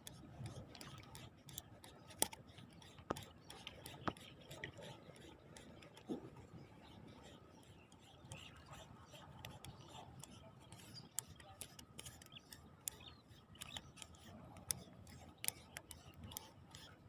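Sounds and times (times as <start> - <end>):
faint sharp clicks and ticks: 0.0 - 17.0.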